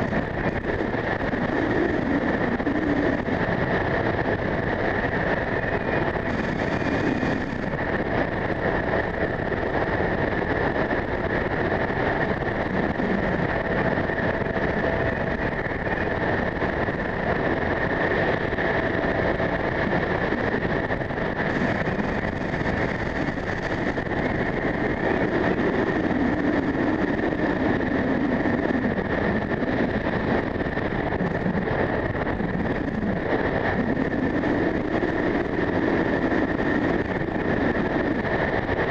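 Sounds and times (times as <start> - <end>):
strong wind on microphone: 0.0 - 38.9.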